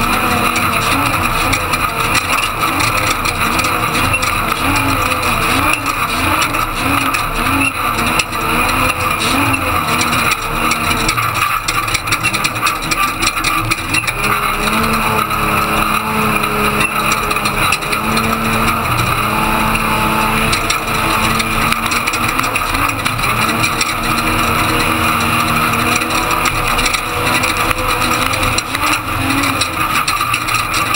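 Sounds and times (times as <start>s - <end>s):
constant rattle: 0.0s - 30.9s
truck engine running hard: 0.0s - 30.9s
tyre and road noise: 0.0s - 30.9s.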